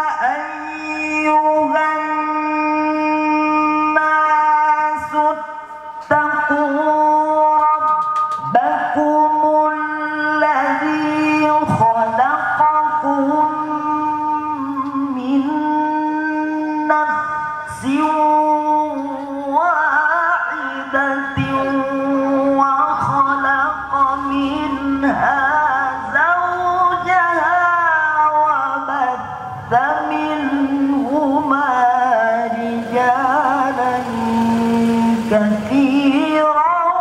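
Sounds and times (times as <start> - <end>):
man chanting melodically into microphone: 0.0 - 37.0.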